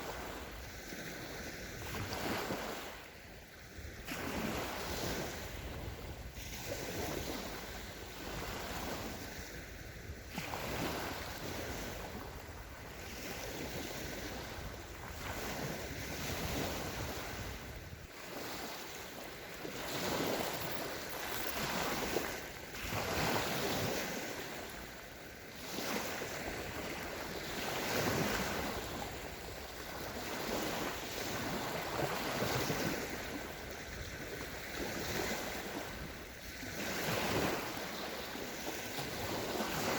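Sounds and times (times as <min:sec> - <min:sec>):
small waves breaking on beach: 0:00.0 - 0:39.9
wind on microphone: 0:00.0 - 0:39.9.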